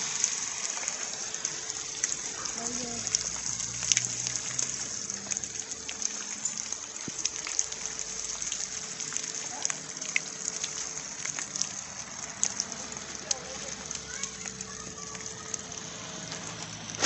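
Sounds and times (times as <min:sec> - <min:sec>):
rain falling: 0:00.0 - 0:17.0
raindrops ticking sharply: 0:00.0 - 0:17.0.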